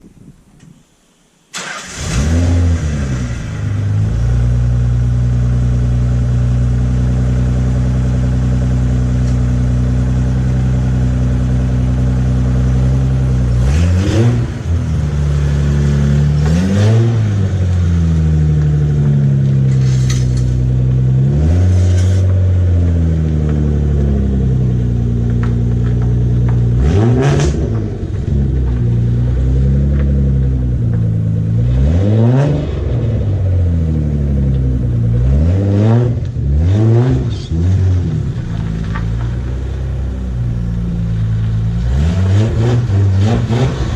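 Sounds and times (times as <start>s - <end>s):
car engine starting and revving: 1.5s - 43.9s.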